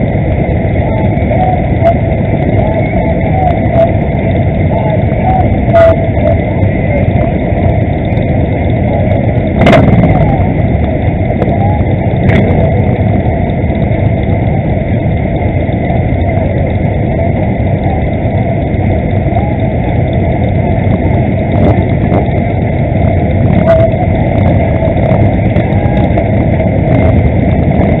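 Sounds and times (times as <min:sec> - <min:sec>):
motorcycle engines idling: 0:00.0 - 0:28.0.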